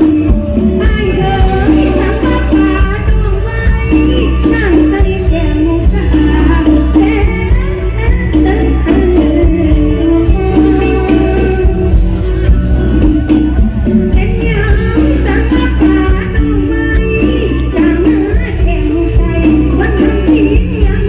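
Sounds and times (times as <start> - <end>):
woman singing: 0.0 - 12.3, 13.4 - 21.0
live band dance music: 0.0 - 21.0.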